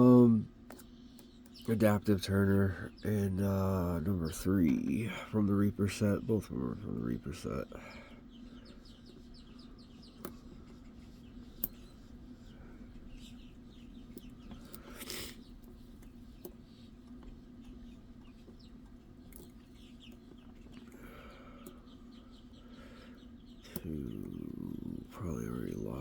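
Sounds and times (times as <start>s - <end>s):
faint birds chirping: 0.0s - 26.0s
steady low hum: 0.0s - 26.0s.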